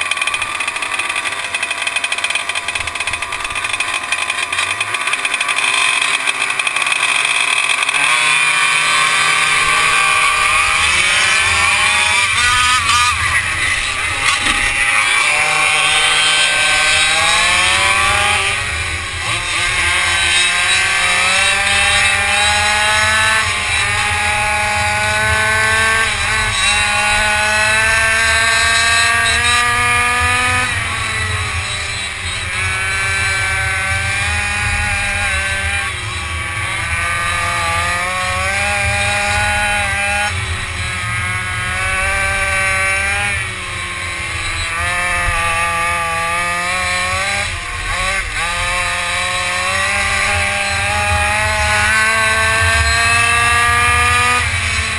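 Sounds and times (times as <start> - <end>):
quad engine revving: 0.0 - 54.9.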